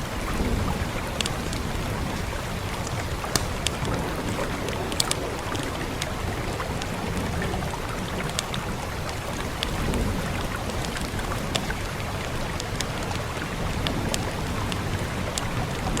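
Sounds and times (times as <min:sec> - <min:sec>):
rain hiss: 0:00.0 - 0:16.0
wood fire crackling: 0:00.0 - 0:16.0.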